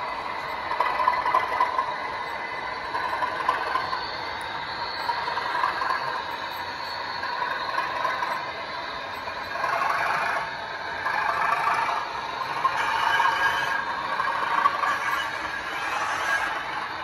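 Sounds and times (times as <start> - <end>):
model train wheels rattling on track: 0.0 - 17.0.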